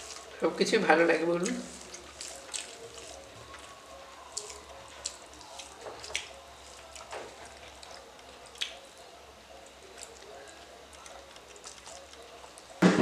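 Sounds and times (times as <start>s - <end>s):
fingers squishing rice on plates: 1.4s - 12.8s.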